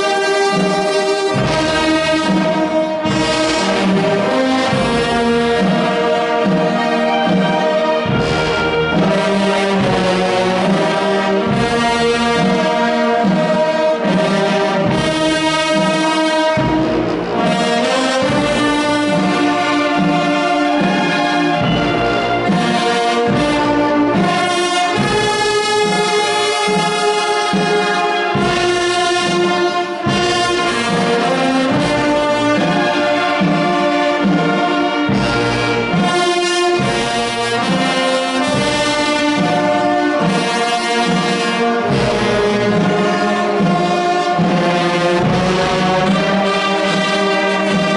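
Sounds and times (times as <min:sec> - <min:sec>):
wind band playing: 0:00.0 - 0:47.9.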